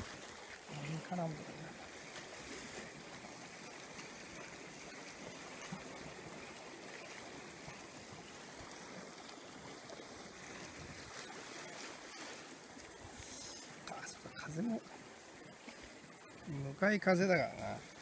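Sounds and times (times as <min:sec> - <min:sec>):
seawater washing against seawall: 0:00.0 - 0:18.0.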